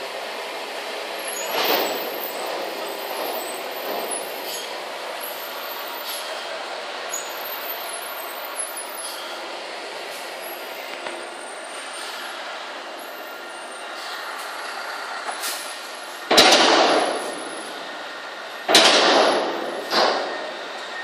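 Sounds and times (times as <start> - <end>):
truck engine hum: 0.0 - 21.0.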